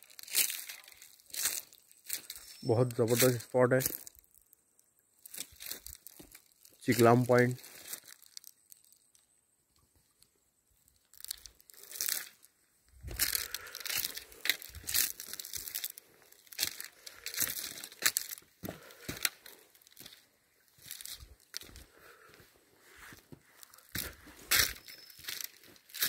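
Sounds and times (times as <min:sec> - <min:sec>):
footsteps crunching through dry leaves: 0:00.0 - 0:04.2, 0:05.2 - 0:09.0, 0:11.1 - 0:26.0.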